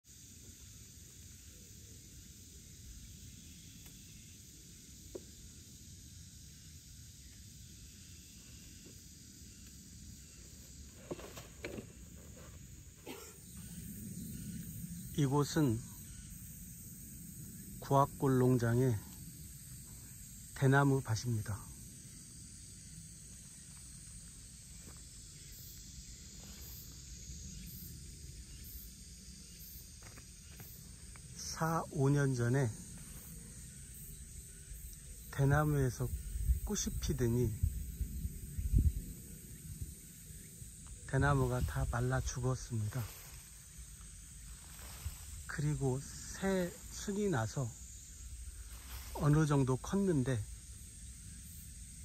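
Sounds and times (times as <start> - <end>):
insects hissing: 0.0 - 52.0.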